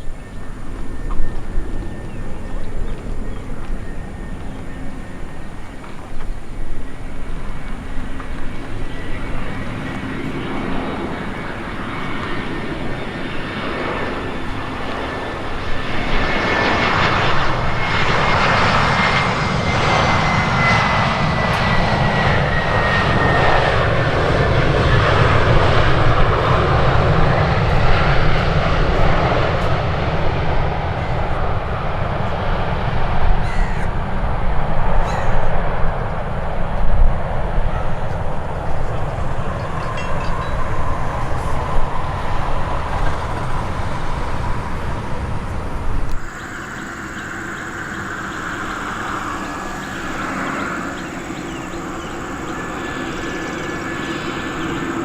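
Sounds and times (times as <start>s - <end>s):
airliner engines passing: 0.0s - 55.0s.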